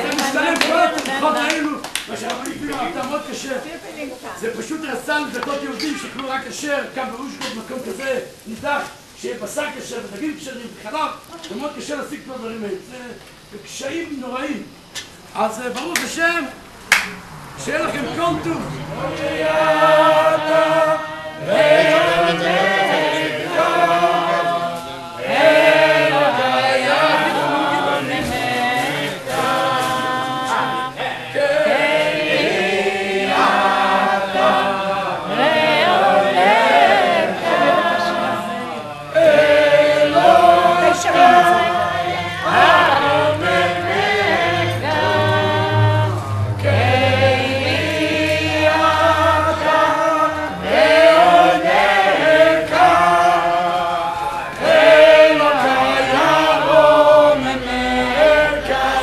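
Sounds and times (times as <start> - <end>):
group singing unaccompanied: 0.0 - 11.1, 15.3 - 59.0.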